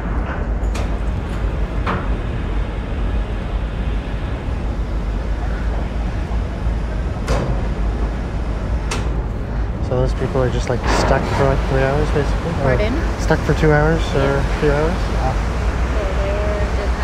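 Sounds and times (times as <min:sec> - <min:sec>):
ferry engines rumbling: 0:00.0 - 0:17.0.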